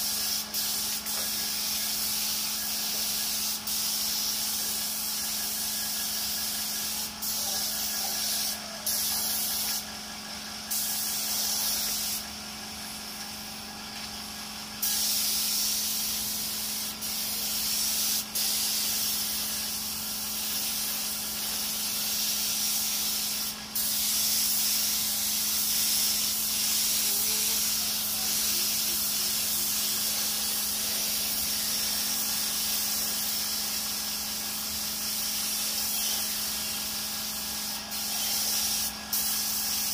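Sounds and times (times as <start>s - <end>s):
air spray gun hissing: 0.0s - 39.9s.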